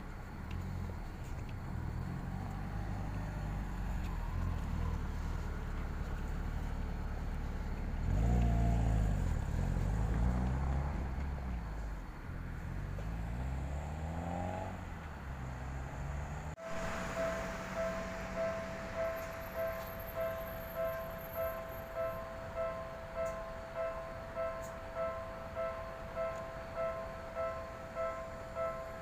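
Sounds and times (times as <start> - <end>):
car engines passing: 0.0 - 29.0
engine accelerating: 0.0 - 29.0.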